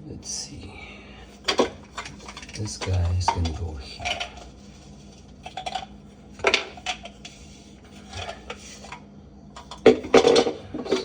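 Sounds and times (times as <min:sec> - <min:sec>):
pipe fittings clacking and scraping: 0:01.4 - 0:09.0, 0:09.6 - 0:11.0.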